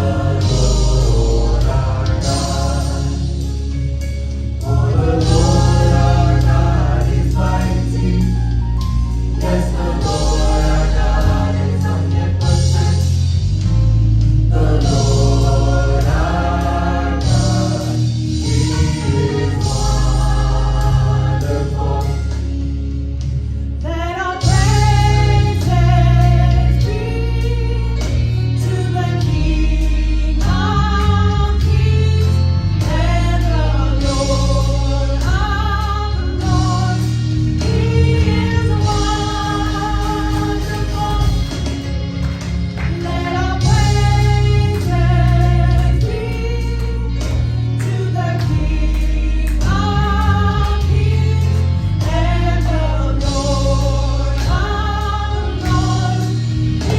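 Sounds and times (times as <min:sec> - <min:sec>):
gospel choir singing: 0:00.0 - 0:56.9
strong bass line: 0:00.0 - 0:56.9.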